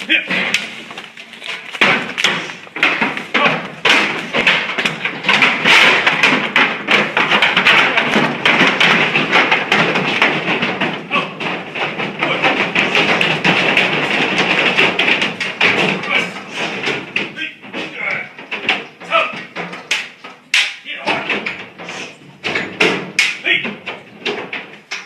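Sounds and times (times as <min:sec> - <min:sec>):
cattle hooves on hard floor: 0:00.0 - 0:25.0.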